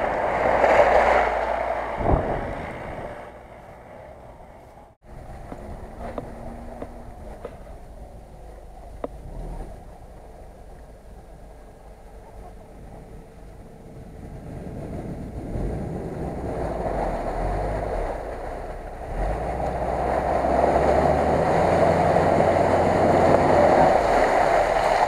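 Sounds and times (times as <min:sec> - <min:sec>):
car engine pulling: 0:00.0 - 0:25.0.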